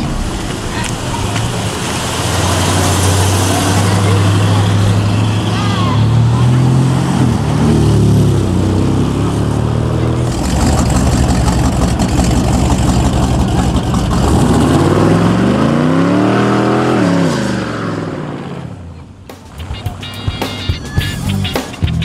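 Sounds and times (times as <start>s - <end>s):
car engine revving at high revs: 0.0s - 18.6s.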